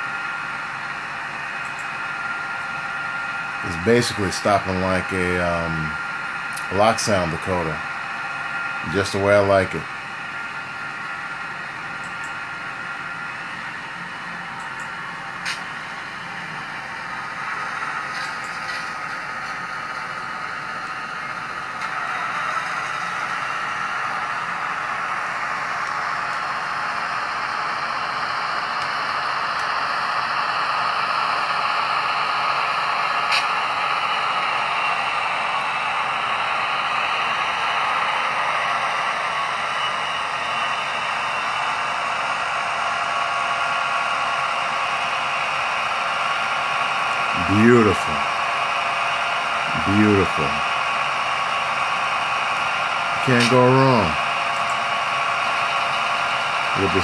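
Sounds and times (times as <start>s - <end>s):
hissy model locomotive engine: 0.0s - 57.0s.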